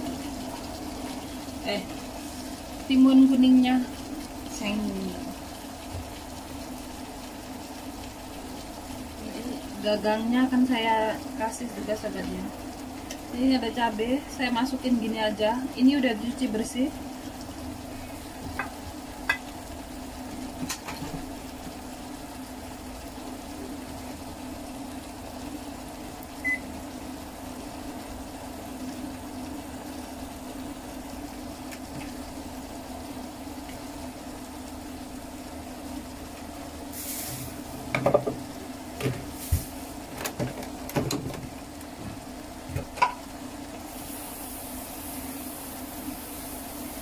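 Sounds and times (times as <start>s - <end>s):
cooktop hum: 0.0s - 47.0s
vegetables simmering in a pan: 0.0s - 47.0s.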